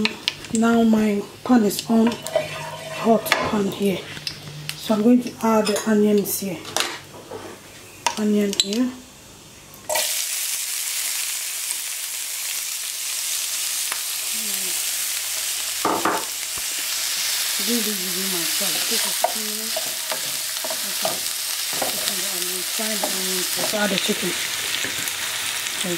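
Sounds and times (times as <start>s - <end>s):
onions sizzling in a frying pan: 0.0s - 6.5s, 7.2s - 25.9s.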